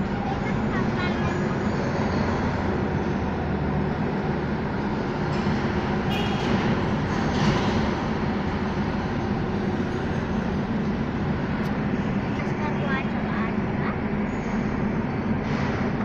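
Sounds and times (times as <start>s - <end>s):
engine rumble: 0.0s - 16.0s.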